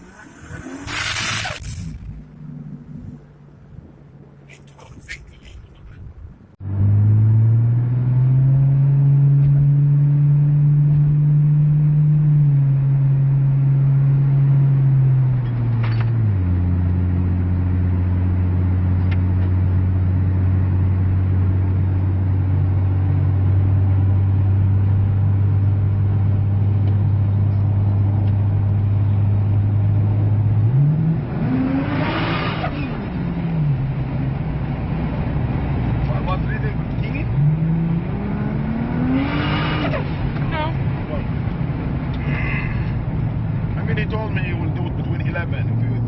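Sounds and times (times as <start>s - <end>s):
car engine and exhaust revving: 0.0s - 4.8s, 5.8s - 46.0s.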